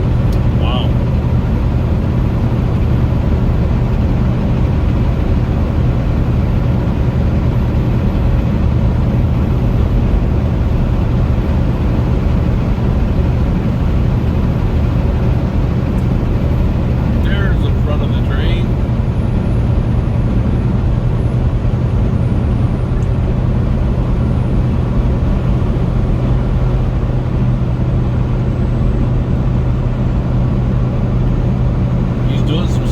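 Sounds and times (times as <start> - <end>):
road noise: 0.0 - 32.9
truck engine drone: 0.0 - 32.9.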